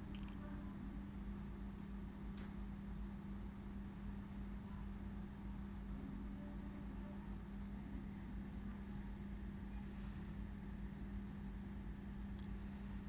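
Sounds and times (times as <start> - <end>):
faint rumble and hiss: 0.0 - 13.0.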